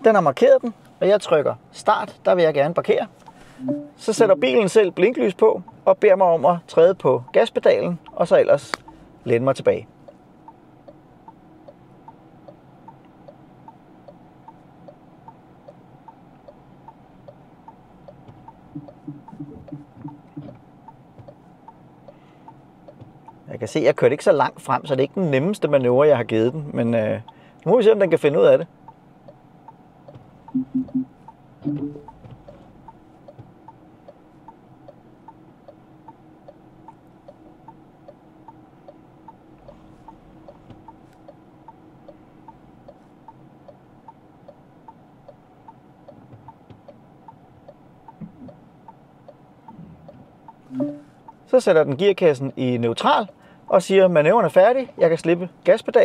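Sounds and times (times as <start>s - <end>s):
turn signal ticking: 0.0s - 23.8s, 24.5s - 53.6s.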